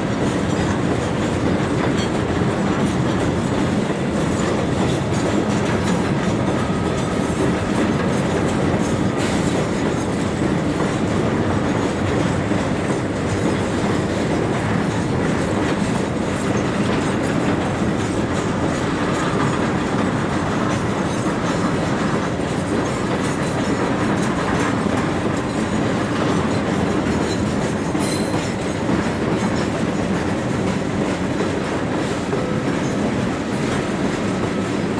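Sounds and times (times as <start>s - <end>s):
train wheels clicking over rail joints: 0.0s - 34.9s.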